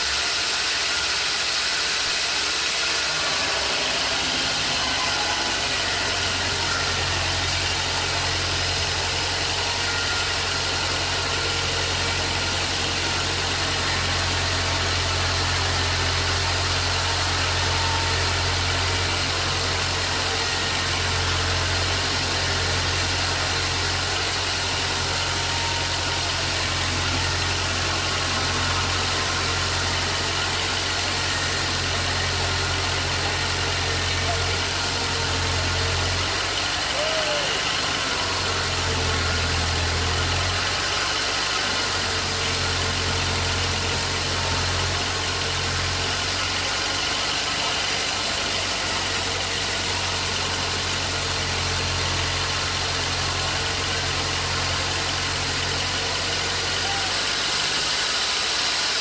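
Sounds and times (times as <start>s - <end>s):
broad steady hiss: 0.0s - 59.0s.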